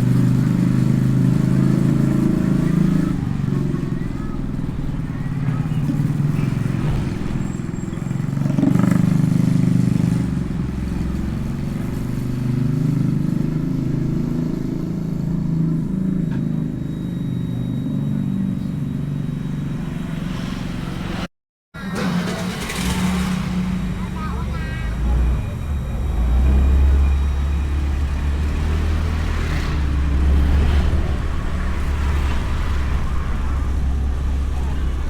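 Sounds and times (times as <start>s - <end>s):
motorcycle engine drone: 0.0s - 35.0s.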